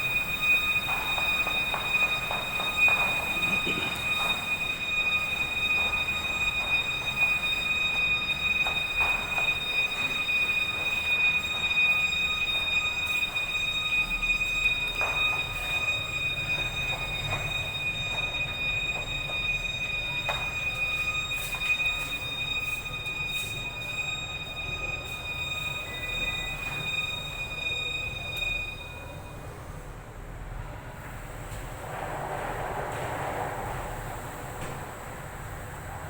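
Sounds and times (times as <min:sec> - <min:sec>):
fire alarm tone: 0:00.0 - 0:29.8.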